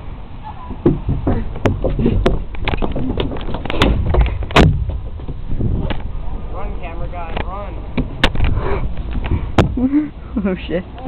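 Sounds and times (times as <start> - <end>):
low microphone rumble: 0.0 - 10.5.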